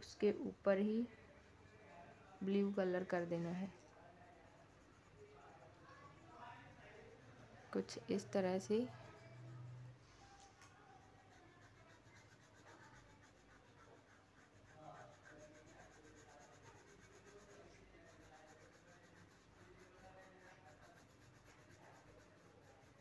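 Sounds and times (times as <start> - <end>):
pencil scratching on paper: 0.0 - 23.0.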